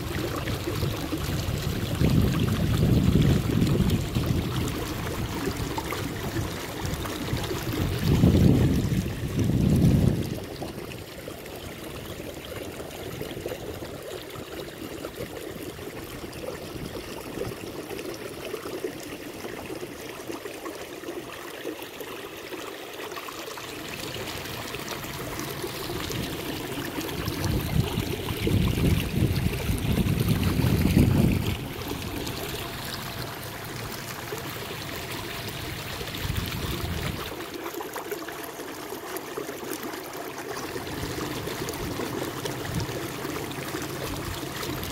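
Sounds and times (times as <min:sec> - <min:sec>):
water lapping along hull: 0:00.0 - 0:44.9.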